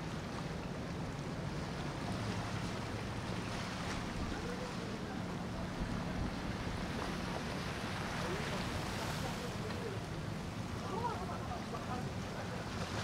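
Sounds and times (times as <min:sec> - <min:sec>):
outboard engines droning: 0:00.0 - 0:13.0
water wash: 0:00.0 - 0:13.0.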